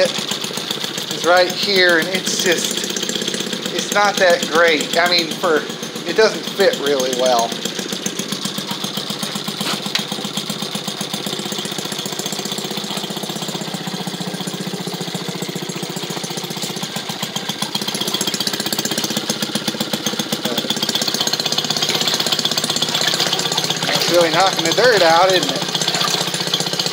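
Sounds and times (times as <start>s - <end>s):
small gasoline engine popping: 0.0s - 26.9s.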